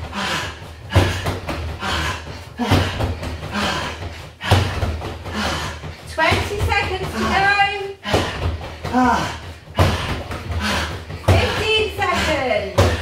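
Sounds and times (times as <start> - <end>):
kicks thudding on punch bag: 0.8 - 2.0, 2.6 - 11.9, 12.6 - 13.0.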